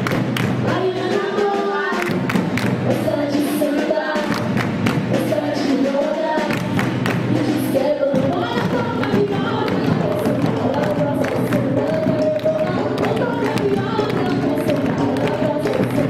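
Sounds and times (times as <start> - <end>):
drums and hand percussion: 0.0 - 16.0
voices singing: 0.6 - 16.0.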